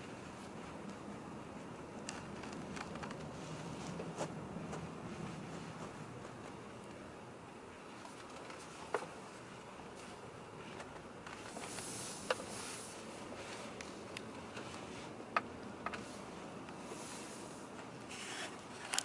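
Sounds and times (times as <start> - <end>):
road and tyre noise in car: 0.0 - 19.0.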